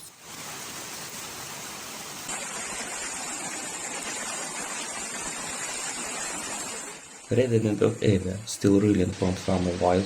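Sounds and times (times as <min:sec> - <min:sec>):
floodwater rushing: 0:00.2 - 0:10.0.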